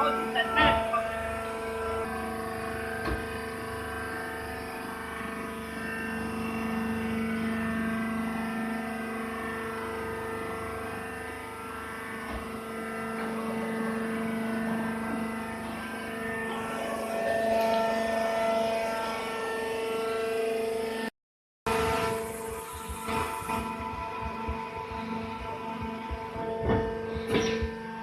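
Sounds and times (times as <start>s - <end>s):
hydraulic pump motor humming: 0.0s - 21.1s, 21.7s - 28.0s.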